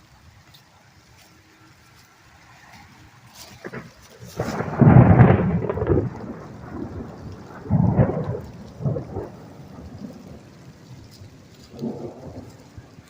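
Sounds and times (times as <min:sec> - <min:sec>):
steady rain: 0:00.0 - 0:13.0
thunder rumbling: 0:02.5 - 0:13.0.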